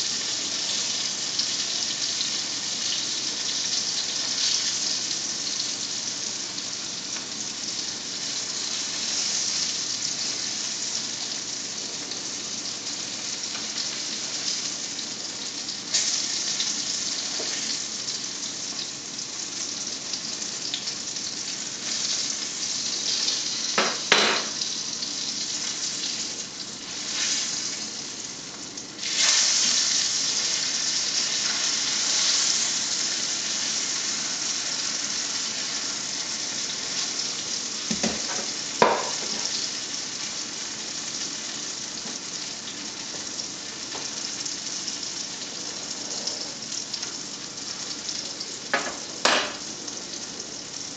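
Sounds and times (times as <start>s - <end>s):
butter sizzling in a frying pan: 0.0s - 50.9s.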